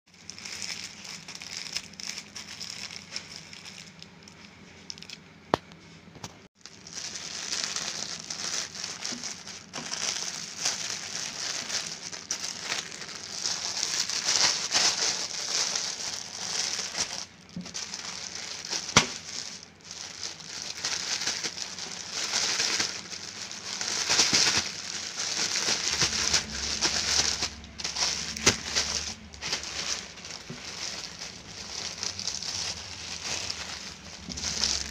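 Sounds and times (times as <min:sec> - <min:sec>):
plastic mailer crinkling and tearing: 0:00.1 - 0:05.2, 0:06.6 - 0:34.9.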